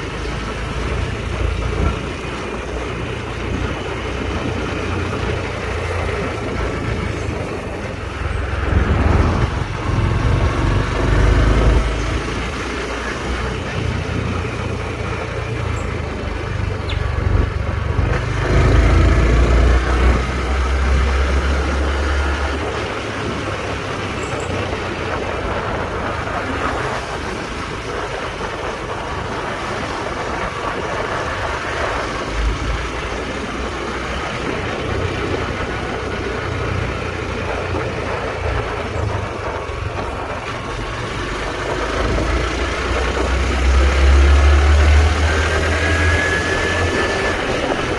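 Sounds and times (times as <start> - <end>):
motorcycle engine running: 0.0 - 47.9
wind rushing over microphone: 0.0 - 47.9.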